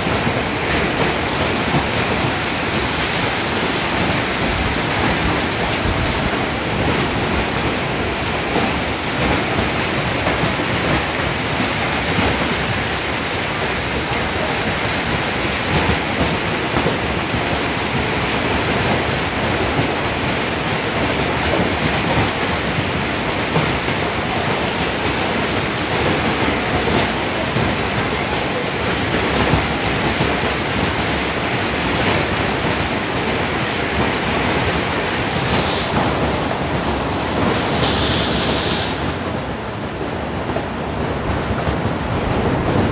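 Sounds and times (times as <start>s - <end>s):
hailstones hitting: 0.0s - 42.9s
heavy rain hissing: 0.0s - 42.9s.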